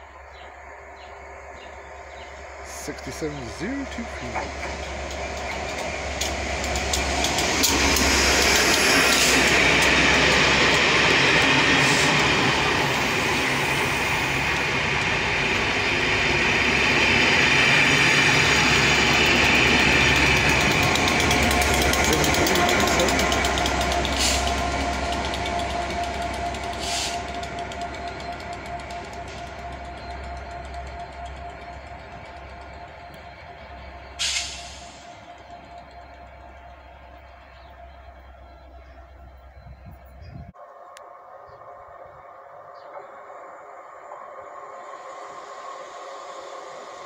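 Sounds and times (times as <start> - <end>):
diesel locomotive passing: 0.0 - 47.0
train coaches rolling by: 0.0 - 47.0.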